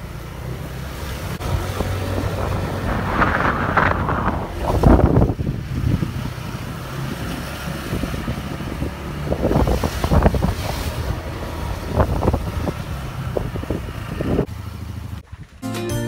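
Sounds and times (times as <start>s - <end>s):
motorbike engine hum: 0.0s - 16.0s
wind buffeting microphone: 1.2s - 14.5s.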